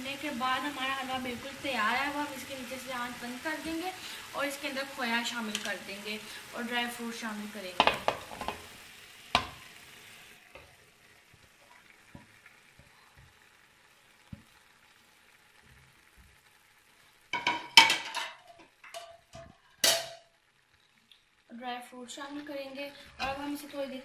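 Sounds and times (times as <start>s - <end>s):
faint sizzle: 0.0s - 24.0s.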